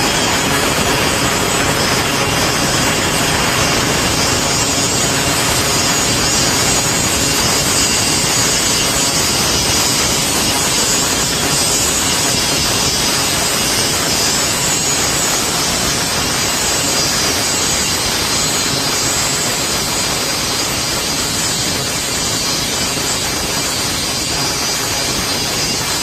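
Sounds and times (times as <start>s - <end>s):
grinder grinding steel: 0.0s - 26.0s.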